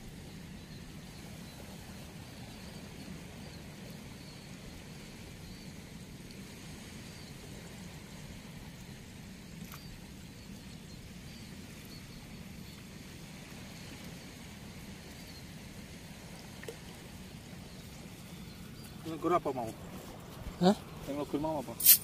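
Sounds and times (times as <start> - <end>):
low outdoor background noise: 0.0 - 22.0.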